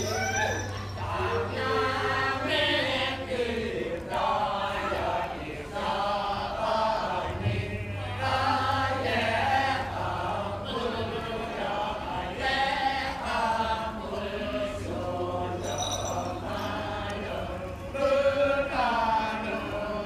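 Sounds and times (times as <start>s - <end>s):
low steady hum: 0.0s - 20.0s
voices chanting long held notes: 0.0s - 20.0s.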